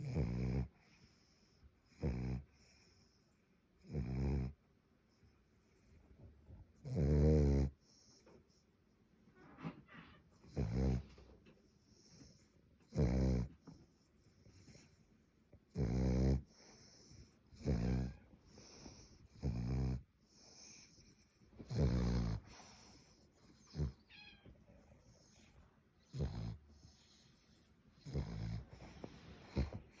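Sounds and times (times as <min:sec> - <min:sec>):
dog snoring: 0:00.0 - 0:03.2, 0:03.8 - 0:04.6, 0:06.8 - 0:08.6, 0:10.4 - 0:24.0, 0:25.0 - 0:30.0.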